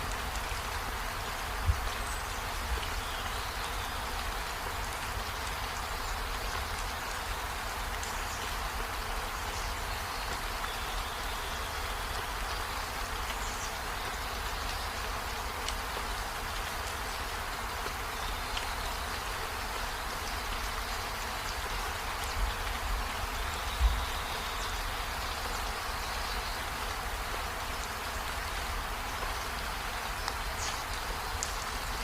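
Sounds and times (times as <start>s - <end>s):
rain on trees and window: 0.0s - 32.0s.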